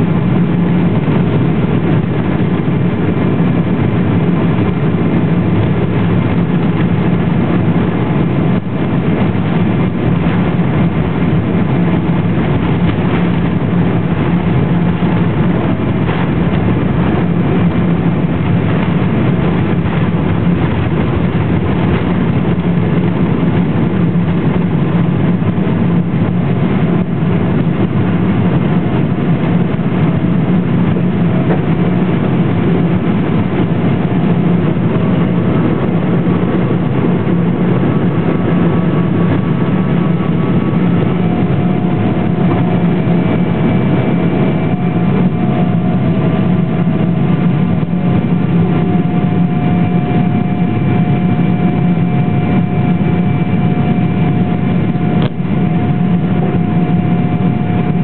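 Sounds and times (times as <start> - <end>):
jet engines roaring: 0.0 - 58.0
low cabin hum: 0.0 - 58.0.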